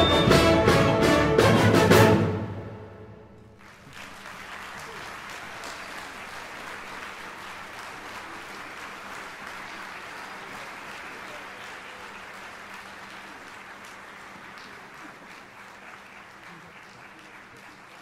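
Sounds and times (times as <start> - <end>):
audience applauding: 3.4 - 18.0.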